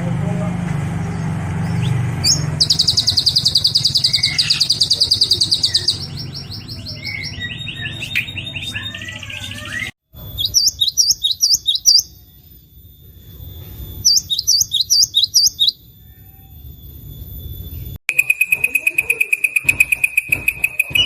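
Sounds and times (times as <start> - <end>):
bird rapid even trill: 1.1 - 21.0
bird sharp high swooping chirps: 1.1 - 21.0.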